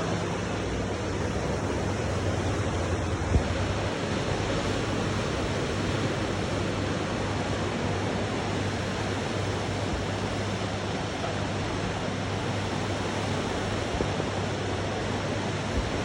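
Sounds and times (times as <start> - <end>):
rushing river whitewater: 0.0 - 16.0.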